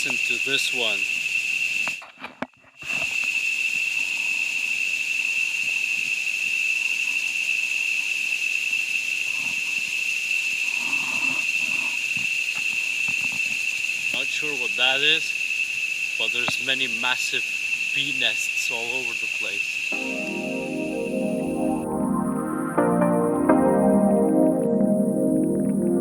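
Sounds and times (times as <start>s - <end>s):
insect chorus droning: 0.0s - 26.0s.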